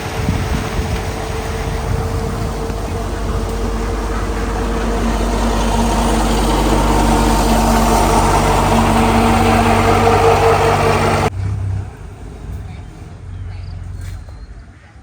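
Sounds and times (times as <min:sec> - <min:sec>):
rushing noise: 0:00.0 - 0:13.5
motor engine running: 0:00.0 - 0:14.4.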